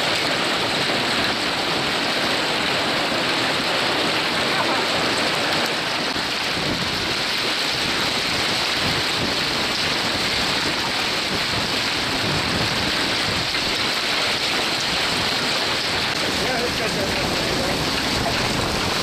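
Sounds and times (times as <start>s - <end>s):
hail and heavy rain pelting cars: 0.0s - 19.0s.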